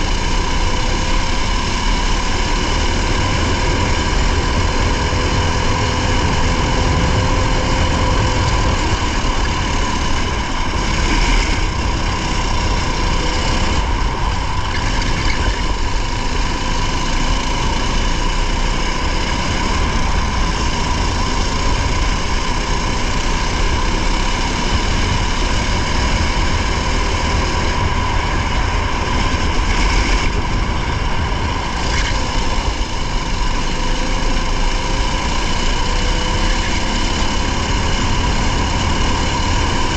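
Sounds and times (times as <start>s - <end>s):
race car engine whine: 0.0s - 39.9s.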